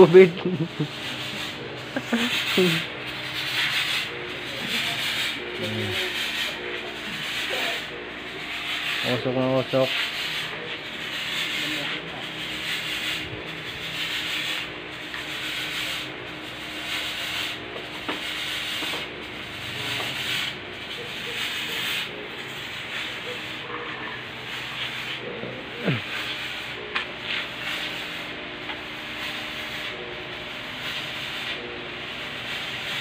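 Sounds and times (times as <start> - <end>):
fogging machine rasping hiss: 0.0 - 33.0.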